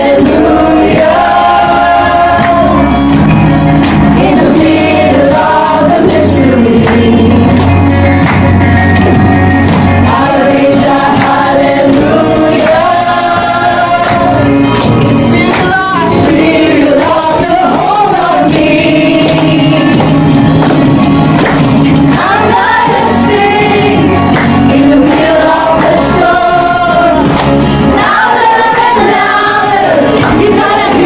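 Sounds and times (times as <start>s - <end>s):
group singing praise song: 0.0s - 31.0s
hands clapping: 0.0s - 31.0s
musical accompaniment: 0.0s - 31.0s.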